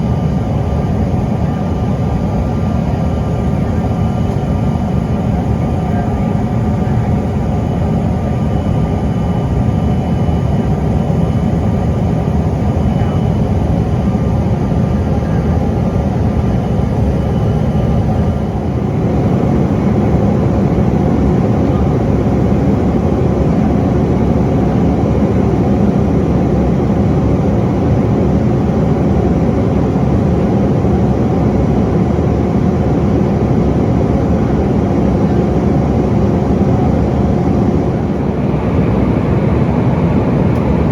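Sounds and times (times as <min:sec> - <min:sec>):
jet cabin engine noise: 0:00.0 - 0:40.9.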